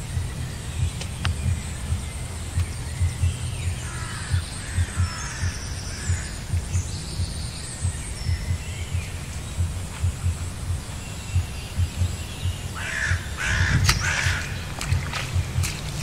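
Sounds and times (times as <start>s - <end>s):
low soft thumps: 0.0s - 16.0s
small birds chirping: 0.0s - 16.0s.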